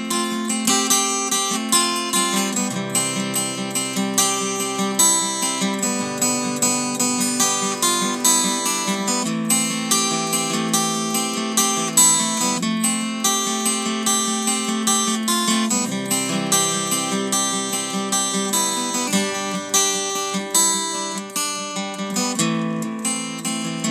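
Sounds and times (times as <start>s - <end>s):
acoustic guitar chords: 0.0s - 23.9s.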